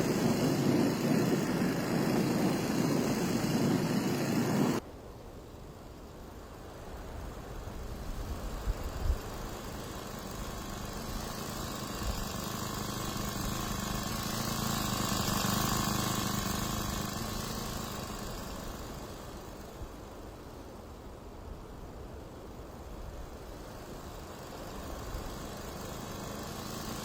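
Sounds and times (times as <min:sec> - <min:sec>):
propeller motorbike passing: 0:00.0 - 0:04.8, 0:07.3 - 0:20.6, 0:22.8 - 0:27.0.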